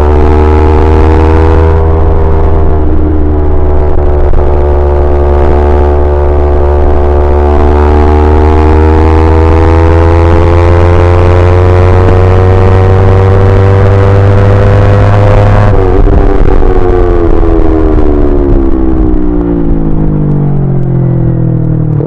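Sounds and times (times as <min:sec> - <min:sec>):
motorcycle engine revving up: 0:00.0 - 0:22.0.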